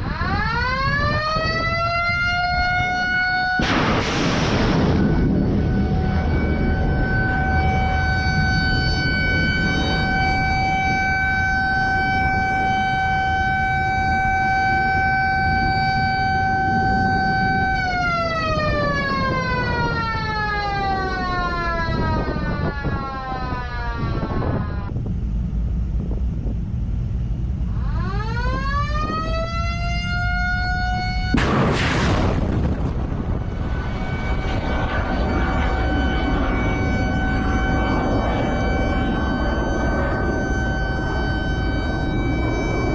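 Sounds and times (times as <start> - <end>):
siren wailing: 0.0 - 25.2, 27.5 - 42.9
low rumble: 3.6 - 20.3, 20.9 - 42.9.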